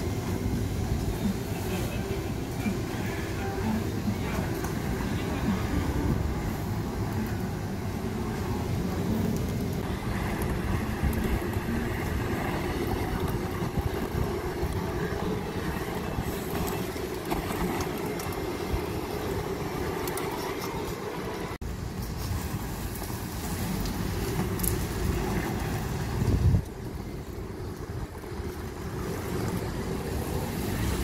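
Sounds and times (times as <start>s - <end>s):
street vacuum suction fan rushing: 0.0s - 31.0s.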